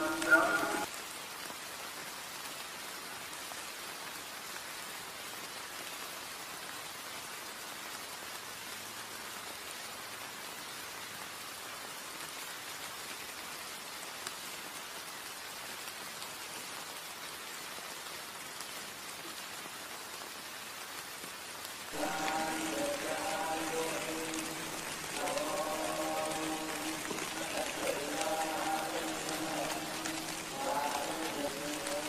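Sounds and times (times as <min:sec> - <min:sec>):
drizzle on wet ground: 0:00.0 - 0:32.0.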